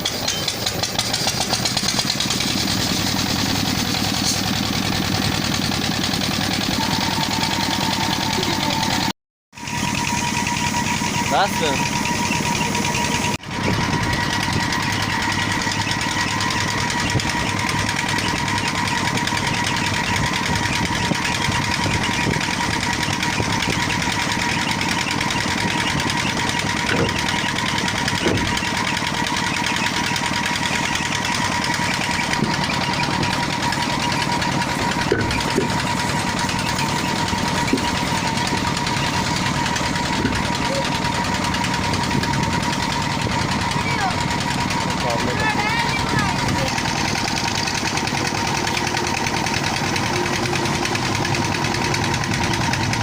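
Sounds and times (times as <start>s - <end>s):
engine running with whine: 0.0s - 53.0s.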